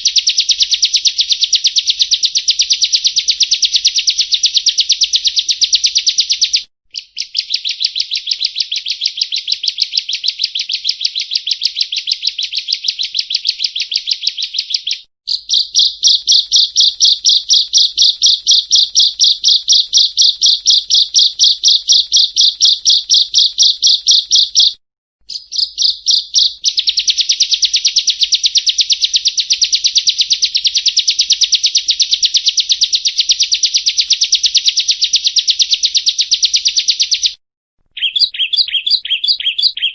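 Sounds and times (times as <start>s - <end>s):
bird calling high repeated notes: 0.0s - 39.9s.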